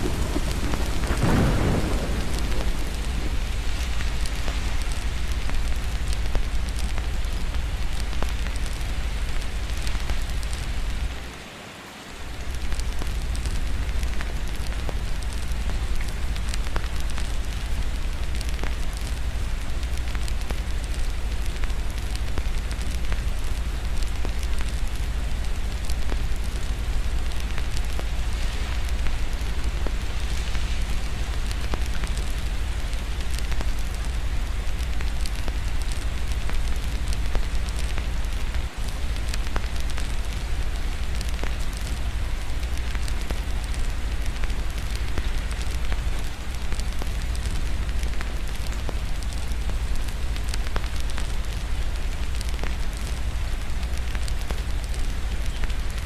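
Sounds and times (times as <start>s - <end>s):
wood fire crackling: 0.0s - 11.4s, 12.2s - 56.0s
steady rain: 0.0s - 56.0s.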